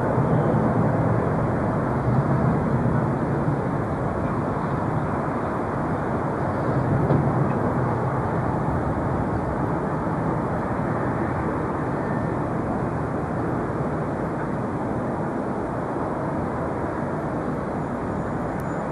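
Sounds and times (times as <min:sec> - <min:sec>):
jet airliner engines rushing: 0:00.0 - 0:18.9.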